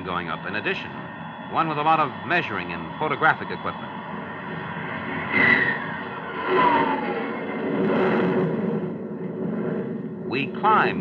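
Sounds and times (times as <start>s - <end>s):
whining tone sliding down: 0.0s - 10.0s
jet plane taking off: 0.0s - 11.0s.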